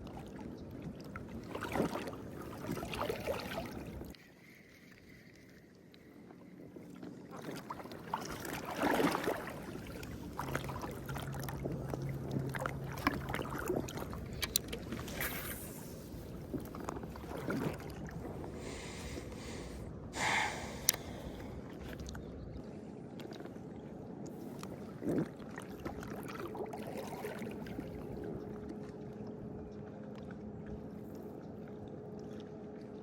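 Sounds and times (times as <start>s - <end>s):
water sloshing and splashing: 0.0s - 19.8s, 20.5s - 33.0s.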